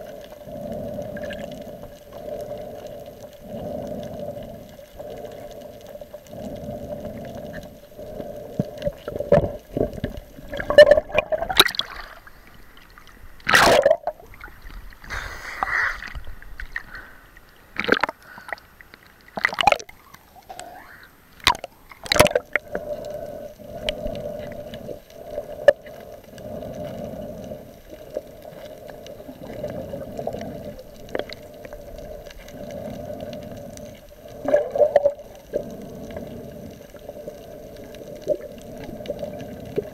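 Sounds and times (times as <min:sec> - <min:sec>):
muffled underwater sloshing: 0:00.0 - 0:39.9.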